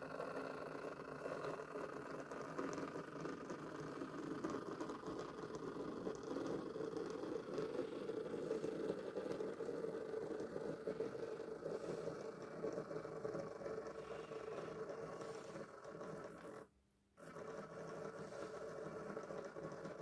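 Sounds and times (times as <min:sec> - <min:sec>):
model train motor whirring: 0:00.1 - 0:20.0.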